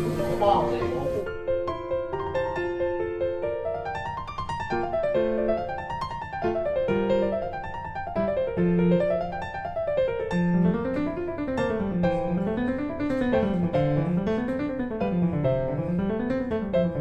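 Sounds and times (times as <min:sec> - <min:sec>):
piano arpeggios: 0:00.0 - 0:17.0.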